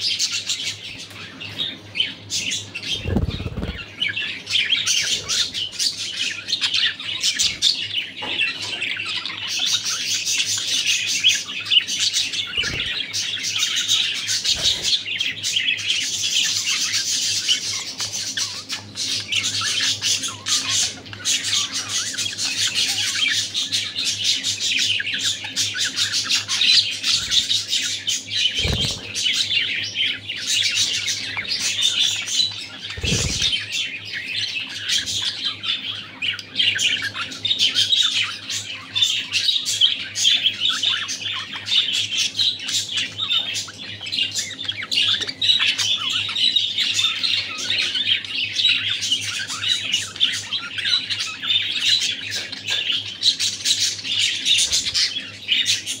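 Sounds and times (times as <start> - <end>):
budgerigars chattering and warbling: 0.0 - 56.0.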